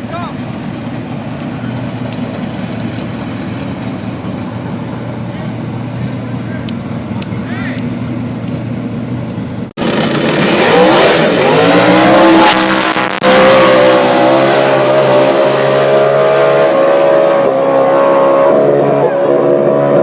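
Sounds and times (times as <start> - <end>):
race cars accelerating: 0.0 - 20.0.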